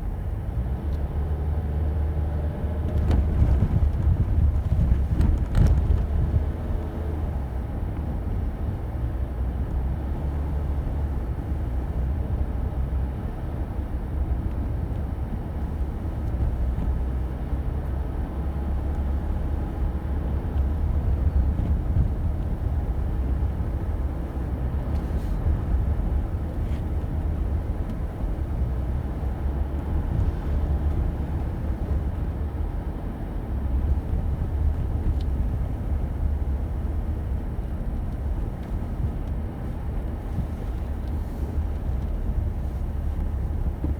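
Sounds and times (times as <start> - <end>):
car engine and tyres rumbling: 0.0 - 43.9.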